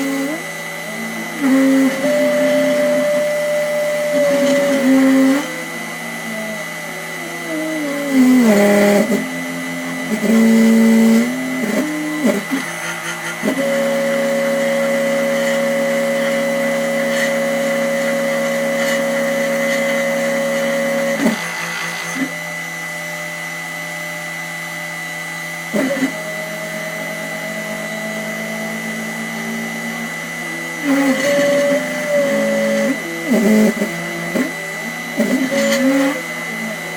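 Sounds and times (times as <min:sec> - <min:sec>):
stepper motors whining: 0:00.0 - 0:36.9.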